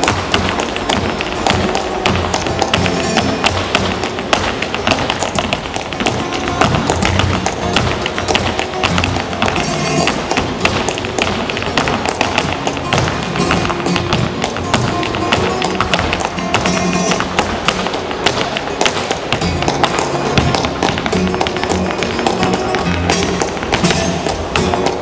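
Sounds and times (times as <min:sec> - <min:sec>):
flamenco music: 0:00.0 - 0:25.0
flamenco shoes tapping on stage: 0:00.0 - 0:25.0.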